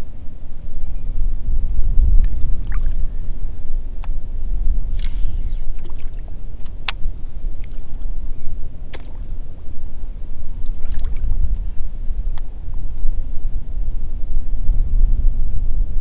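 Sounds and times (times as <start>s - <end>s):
water around a kayak: 0.0s - 16.0s
wind buffeting microphone: 0.0s - 16.0s.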